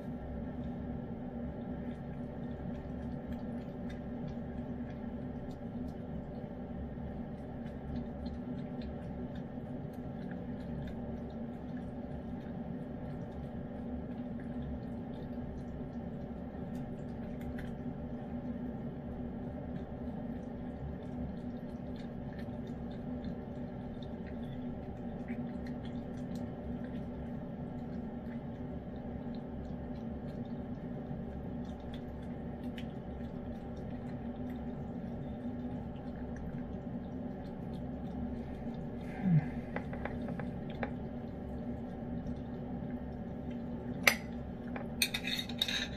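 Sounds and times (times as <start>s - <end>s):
cat eating with wet smacking: 0.0s - 45.0s
steady low hum: 0.0s - 45.9s.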